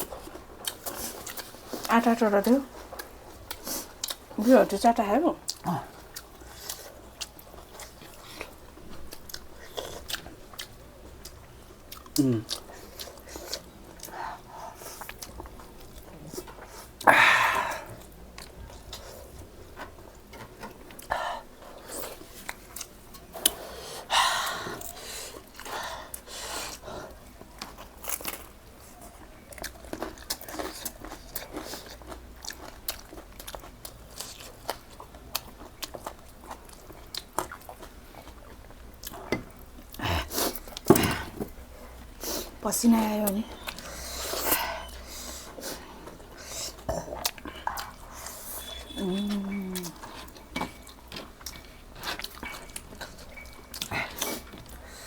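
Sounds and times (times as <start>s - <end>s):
chewing and biting food: 0.0s - 4.4s, 5.4s - 17.1s, 17.9s - 42.6s, 43.4s - 55.0s.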